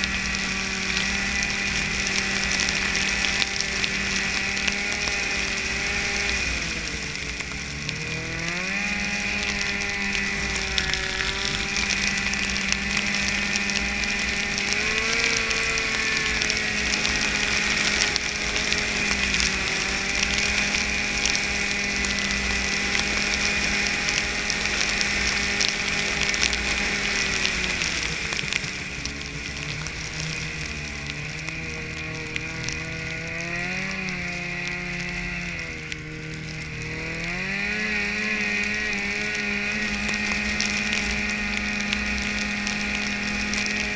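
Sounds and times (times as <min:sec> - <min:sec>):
snowmobile engine running: 0:00.0 - 0:43.9.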